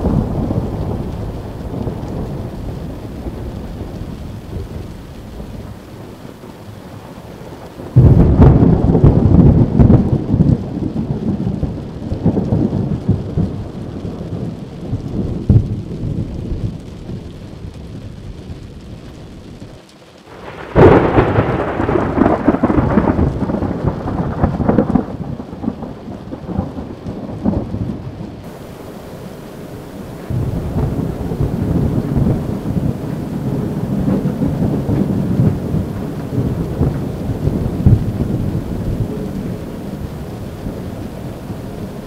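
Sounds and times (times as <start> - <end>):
steady rain: 0.0 - 42.0
thunder claps rumbling: 0.0 - 42.0.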